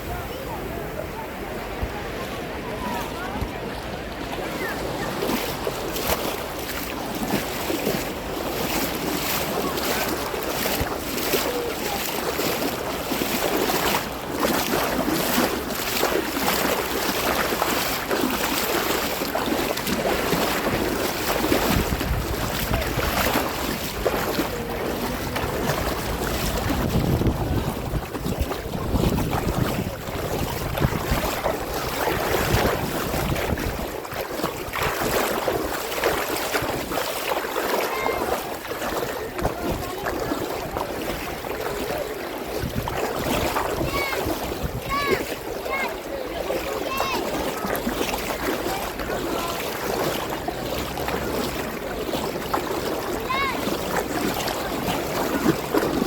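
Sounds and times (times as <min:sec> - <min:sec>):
wind rumbling on microphone: 0:00.0 - 0:46.2
sea water splashing: 0:00.0 - 0:56.0.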